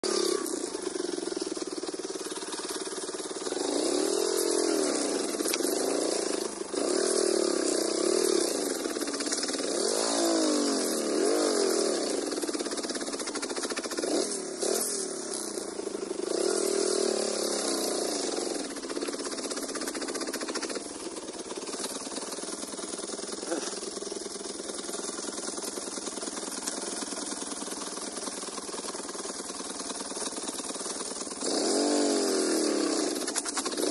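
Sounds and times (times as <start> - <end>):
small motorcycle engine revving: 0.0 - 33.9.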